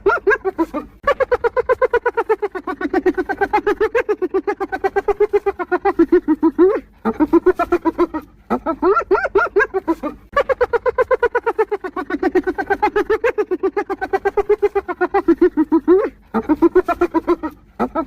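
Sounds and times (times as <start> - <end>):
hyena giggling: 0.0 - 18.0.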